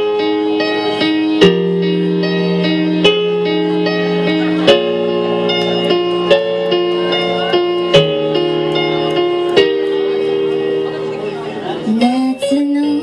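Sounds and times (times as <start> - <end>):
keyboard backing track: 0.0 - 13.0.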